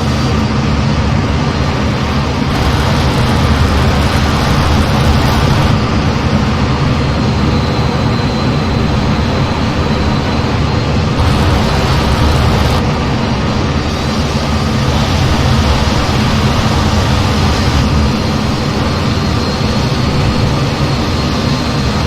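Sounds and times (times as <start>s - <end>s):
jet engine rumble in flight: 0.0s - 22.0s.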